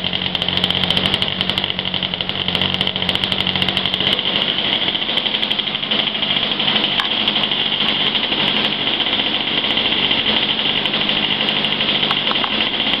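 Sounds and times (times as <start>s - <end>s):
model airplane engine buzzing: 0.0s - 13.0s.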